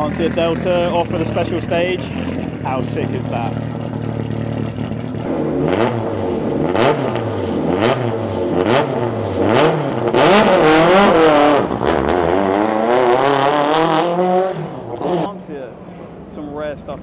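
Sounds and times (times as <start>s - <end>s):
car engine revving: 0.0s - 17.0s
exhaust cracks: 0.0s - 17.0s.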